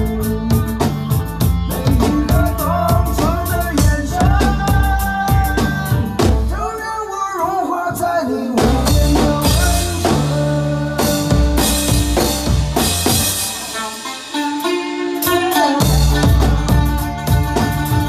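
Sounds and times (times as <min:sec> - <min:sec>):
person singing: 0:00.0 - 0:12.5, 0:13.6 - 0:18.0
drum kit playing: 0:00.0 - 0:18.0.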